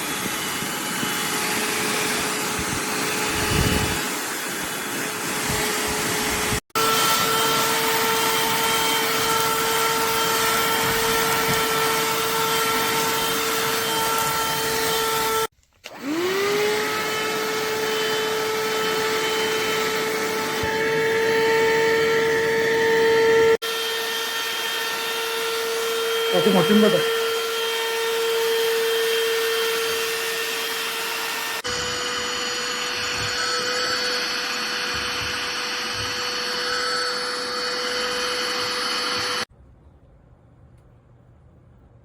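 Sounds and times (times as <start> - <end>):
handheld vacuum cleaner motor whine: 0.0 - 39.5.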